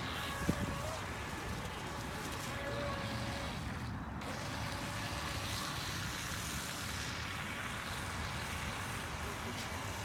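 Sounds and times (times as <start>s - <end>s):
model boat motor whine: 0.0s - 10.0s.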